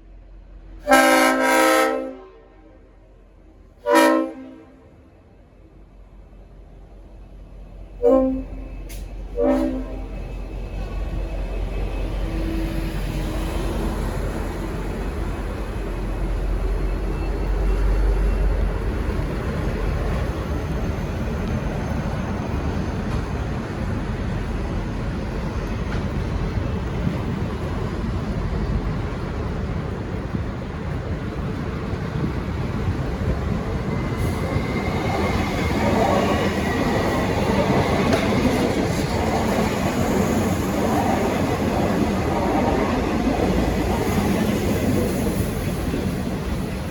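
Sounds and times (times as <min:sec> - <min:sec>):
diesel locomotive engine rumble: 0:00.0 - 0:46.9.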